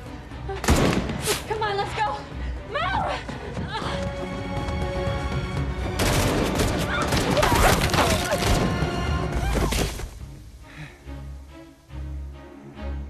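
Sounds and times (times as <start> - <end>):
film score music: 0.0 - 13.0.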